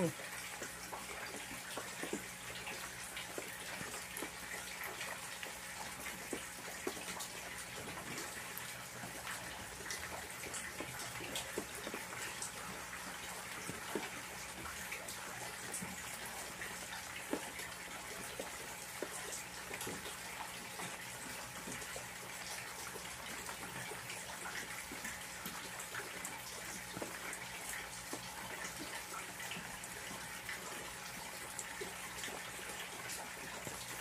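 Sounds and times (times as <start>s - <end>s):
drip-like ticks: 0.0s - 34.0s
water splashing and trickling: 0.0s - 34.0s.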